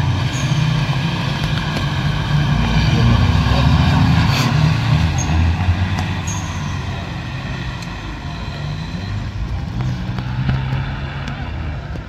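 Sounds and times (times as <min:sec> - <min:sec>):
off-road engines revving: 0:00.0 - 0:12.0.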